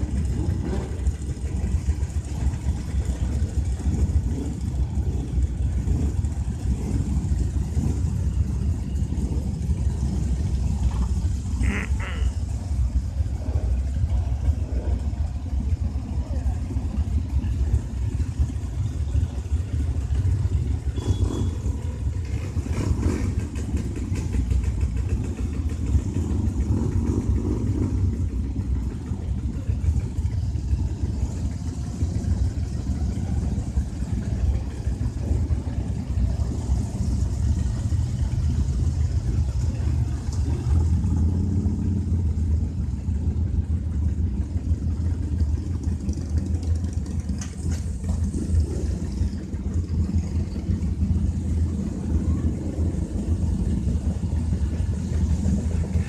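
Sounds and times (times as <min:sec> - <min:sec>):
motorcycle engines idling: 0:00.0 - 0:56.0.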